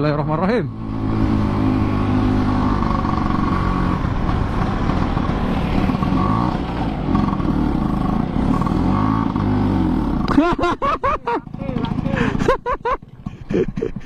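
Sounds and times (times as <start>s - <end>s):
scooter engine under load: 0.7s - 14.0s.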